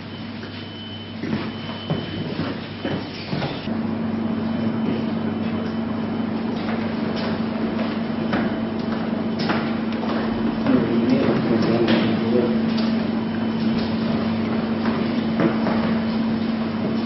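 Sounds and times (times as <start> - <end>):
steady low hum: 0.0 - 17.0
footsteps on indoor stairs: 0.4 - 3.7, 6.3 - 17.0.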